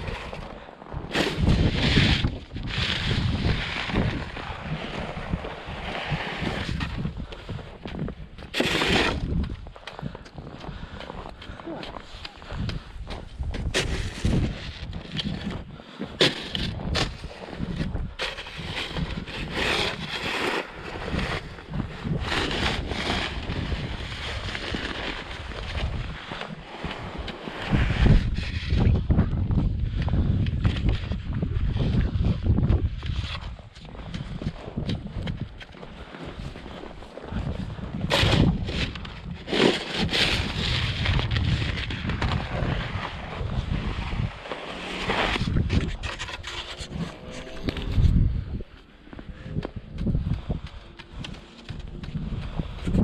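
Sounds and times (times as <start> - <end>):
wind buffeting microphone: 0.0 - 11.5, 12.4 - 15.8, 20.8 - 53.0.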